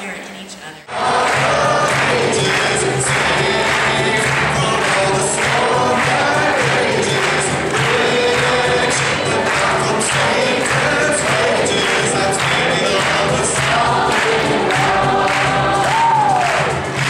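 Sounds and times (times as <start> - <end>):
steady musical accompaniment: 0.8 - 17.0
choir singing gospel: 0.9 - 17.0.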